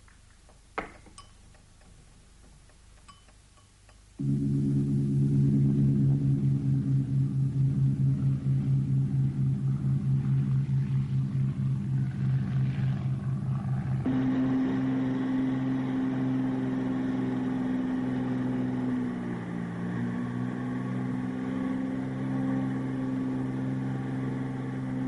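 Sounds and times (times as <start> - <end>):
propeller plane engines droning: 4.2 - 25.0.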